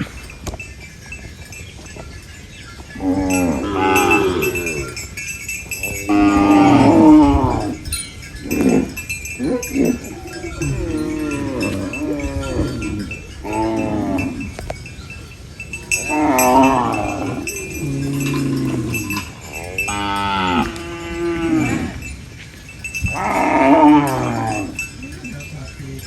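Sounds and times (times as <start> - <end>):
cows mooing: 2.9 - 22.2, 23.0 - 25.4.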